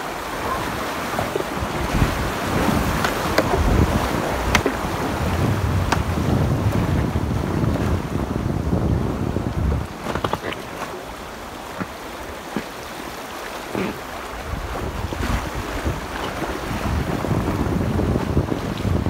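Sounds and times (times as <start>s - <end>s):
wind buffeting microphone: 0.0s - 12.1s, 14.3s - 19.0s
river water splashing over rocks: 0.0s - 19.0s.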